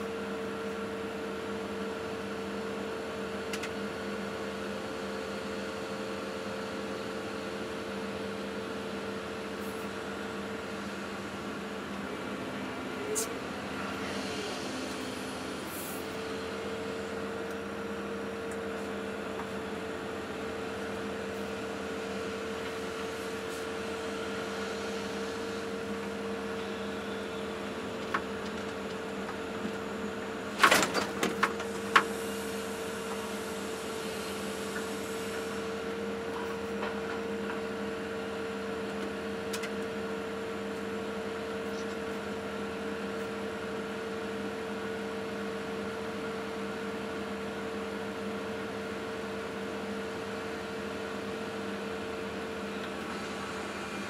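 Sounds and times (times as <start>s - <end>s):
excavator engine hum: 0.0s - 54.0s.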